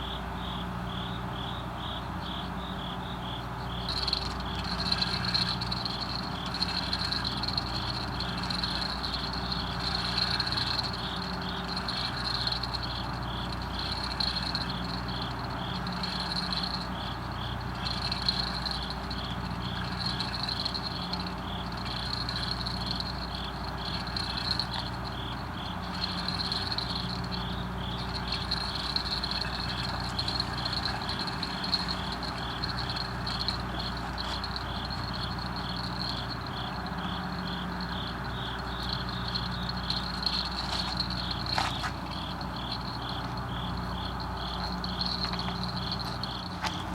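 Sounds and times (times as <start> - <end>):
crickets chirping: 0.0 - 46.9
lower insect call: 0.0 - 46.9
bursts of insect chirps: 1.8 - 46.5.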